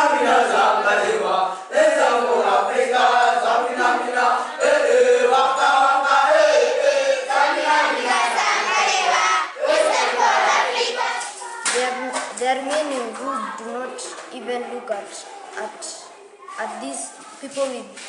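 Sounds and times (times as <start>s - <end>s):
boys singing and chanting: 0.0s - 18.0s.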